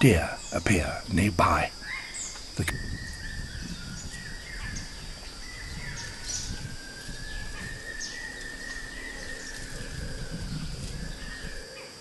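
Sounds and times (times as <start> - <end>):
birds chirping: 0.0 - 12.0
insect drone: 0.0 - 12.0.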